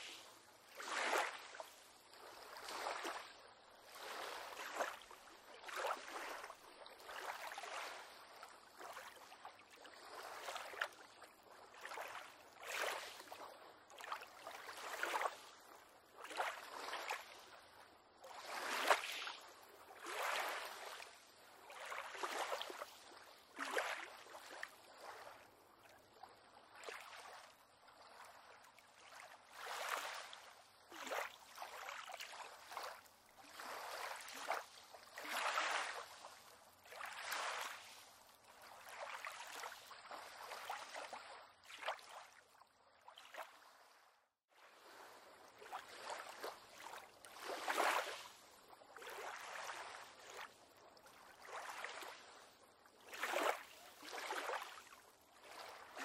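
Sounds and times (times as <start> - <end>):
small waves lapping against pier: 0.0 - 56.0.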